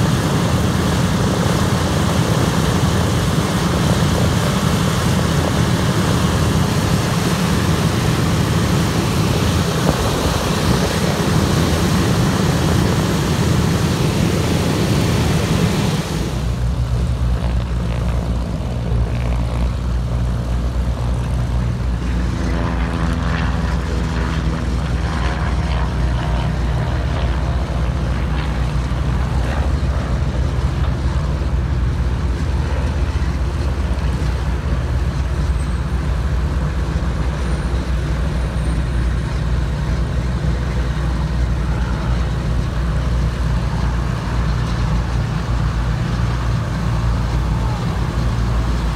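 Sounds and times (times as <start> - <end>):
propeller plane engines taxiing: 0.0 - 48.9
small propeller plane droning: 0.0 - 48.9.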